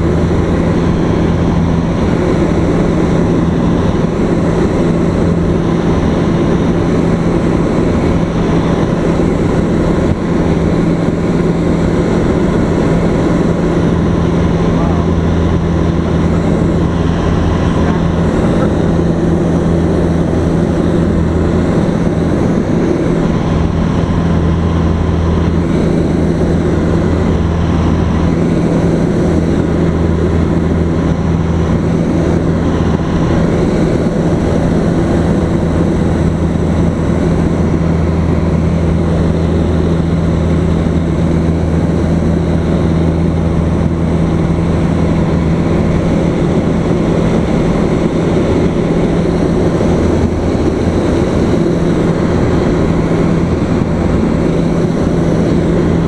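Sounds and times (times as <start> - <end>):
airplane engine and propeller droning: 0.0 - 56.0
constant low hum: 0.0 - 56.0.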